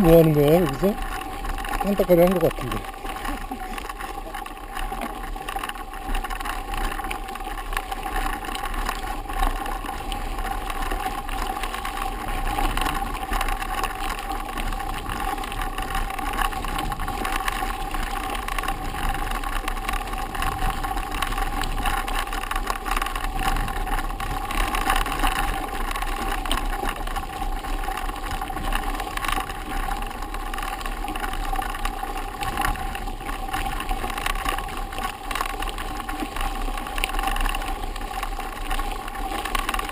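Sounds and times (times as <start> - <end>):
mountain bikes rumbling and rattling: 0.0 - 39.9.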